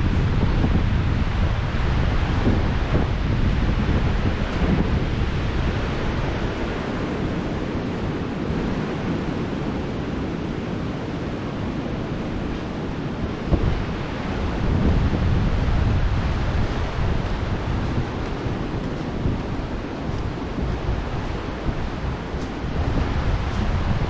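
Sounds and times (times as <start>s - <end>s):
waves breaking on a beach: 0.0s - 24.0s
wind buffeting microphone: 0.0s - 24.0s.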